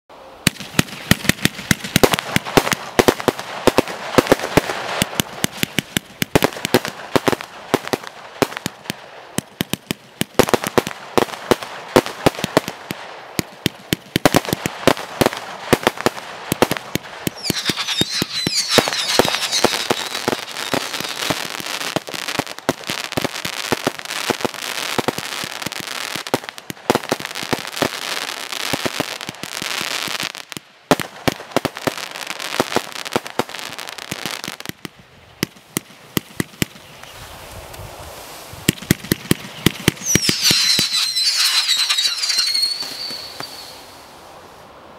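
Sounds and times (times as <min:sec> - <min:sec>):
fireworks popping and banging: 0:00.4 - 0:37.2, 0:38.6 - 0:43.9
fireworks fizzing crackle: 0:00.4 - 0:44.8.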